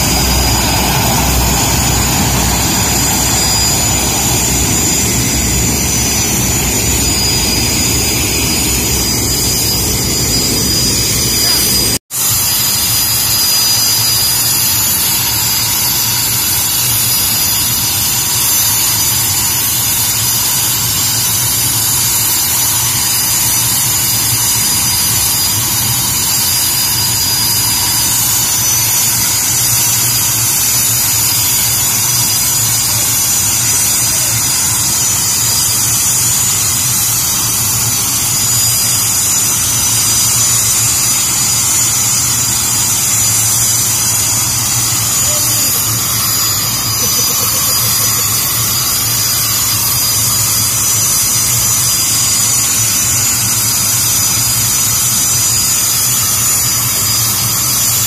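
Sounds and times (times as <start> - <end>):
jet engine high-pitched whine: 0.0 - 58.0.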